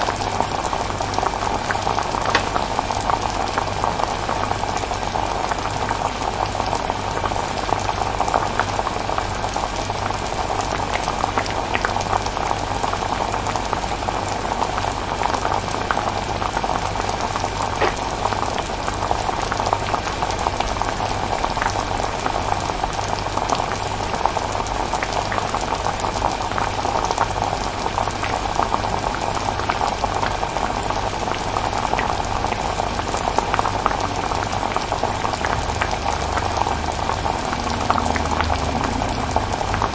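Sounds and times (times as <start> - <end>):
chilli bubbling: 0.0 - 39.9.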